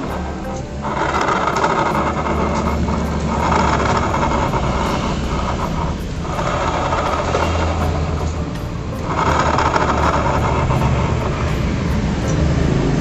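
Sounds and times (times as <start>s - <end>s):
rough grinding noise: 0.0s - 13.0s
scooter engine hum: 0.0s - 13.0s.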